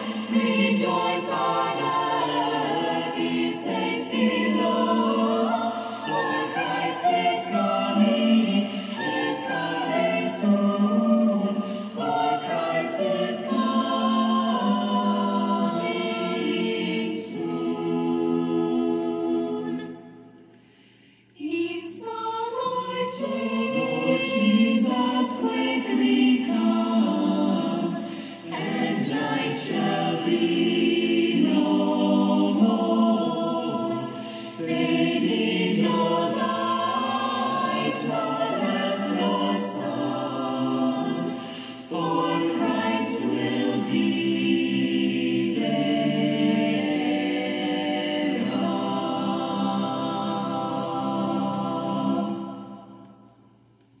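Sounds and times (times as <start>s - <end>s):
choir singing from cassette: 0.0s - 20.7s, 21.3s - 54.0s.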